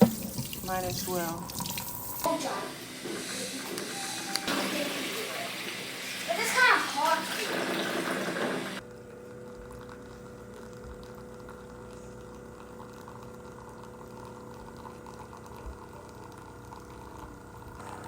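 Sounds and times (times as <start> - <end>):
coffee machine pump humming: 0.0 - 18.0
tap running: 0.0 - 18.0.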